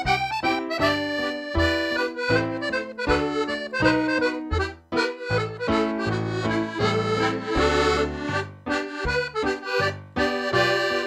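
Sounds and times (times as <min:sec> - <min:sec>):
piano accordion playing a polka: 0:00.0 - 0:11.0.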